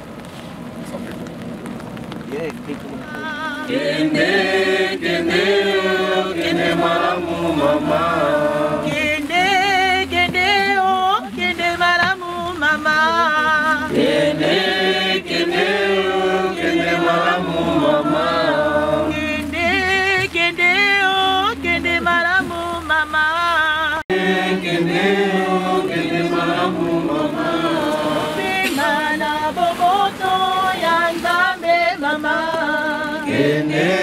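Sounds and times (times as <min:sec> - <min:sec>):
group singing a funeral hymn: 0:03.1 - 0:34.0.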